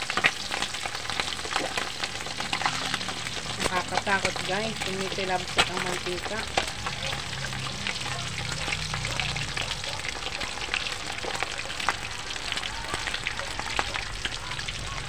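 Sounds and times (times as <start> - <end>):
meat sizzling in hot oil: 0.0 - 15.0
oil crackling and popping: 0.0 - 15.0.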